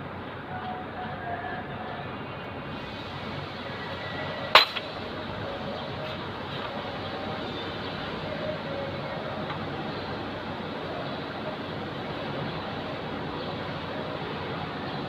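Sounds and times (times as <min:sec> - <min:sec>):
workshop background noise: 0:02.7 - 0:15.0.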